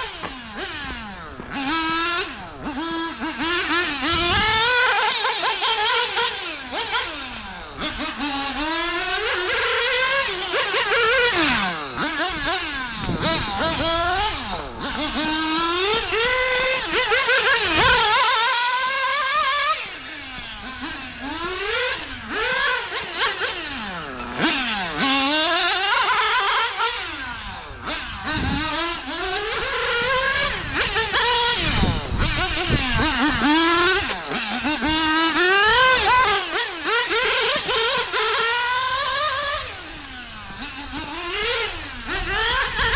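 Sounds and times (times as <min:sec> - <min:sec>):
rc car engine buzzing: 0:00.0 - 0:42.9.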